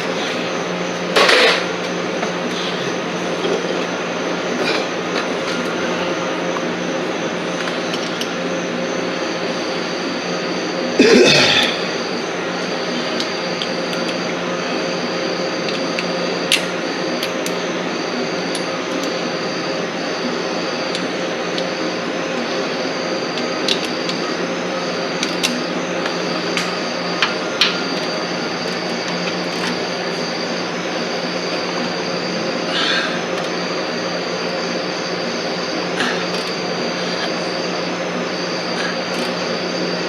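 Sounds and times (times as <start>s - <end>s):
mechanical hum and hiss: 0.0s - 40.0s.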